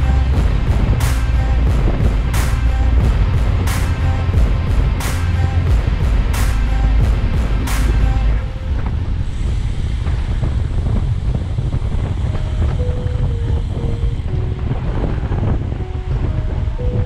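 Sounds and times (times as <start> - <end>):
faint simple melody music: 0.0 - 9.6, 10.8 - 17.0
wind buffeting microphone: 0.0 - 17.0.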